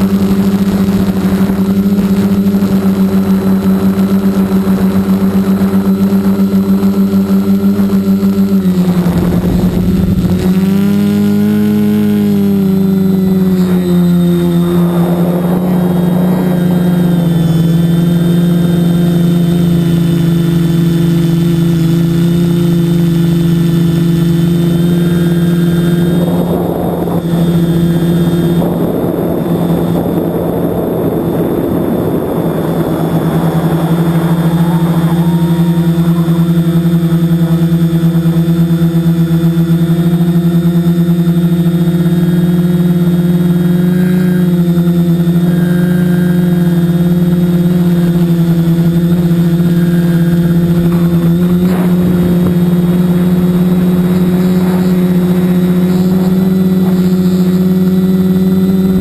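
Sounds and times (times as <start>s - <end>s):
drone motors humming: 0.0s - 59.0s
wind noise: 0.0s - 59.0s.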